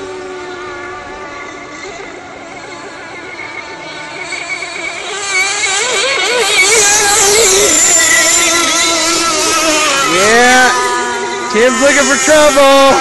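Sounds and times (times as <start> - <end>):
rc boat engines whining: 0.0 - 13.0.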